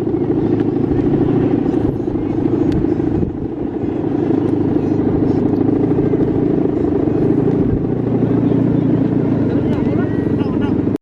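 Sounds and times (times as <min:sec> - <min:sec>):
kite hummer droning: 0:00.0 - 0:11.0.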